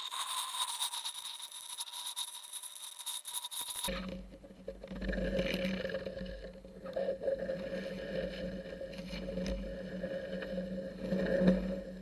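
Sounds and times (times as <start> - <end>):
underwater mechanical hum: 0.0 - 12.0.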